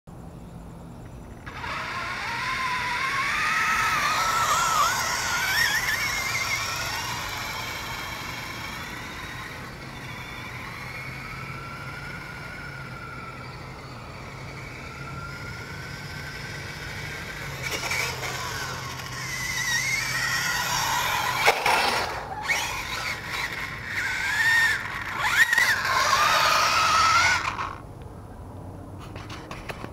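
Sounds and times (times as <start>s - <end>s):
rc car motor whine: 0.7s - 27.9s.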